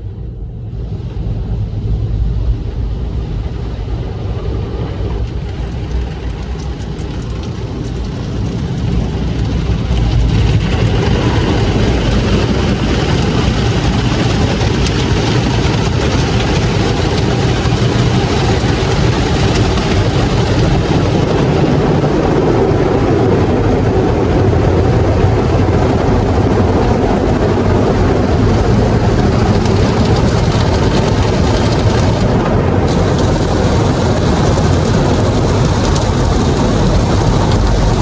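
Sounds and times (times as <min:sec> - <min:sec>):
continuous rushing hiss: 0:00.0 - 0:38.0
loud mechanical rumble: 0:00.0 - 0:38.0.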